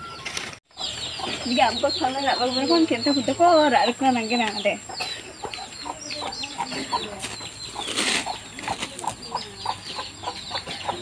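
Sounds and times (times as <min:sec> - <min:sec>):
chickens clucking and peeping: 0:00.0 - 0:11.0.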